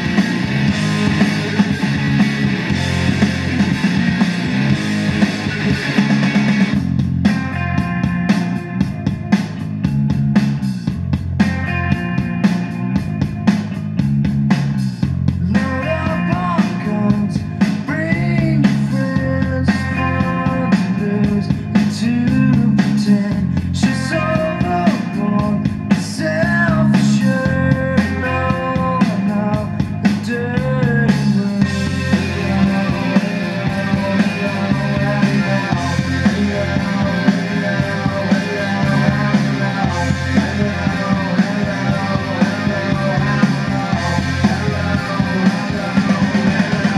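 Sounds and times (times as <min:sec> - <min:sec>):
rock song through speakers: 0:00.0 - 0:46.9.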